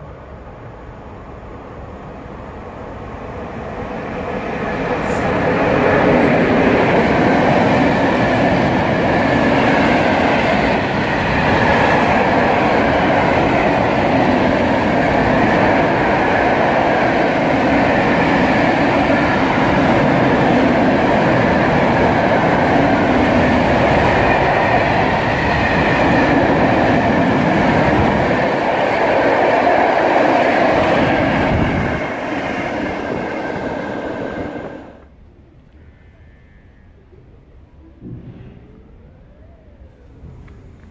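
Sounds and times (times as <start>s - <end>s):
freight train wheels on rails: 0.0s - 35.1s, 37.9s - 39.1s.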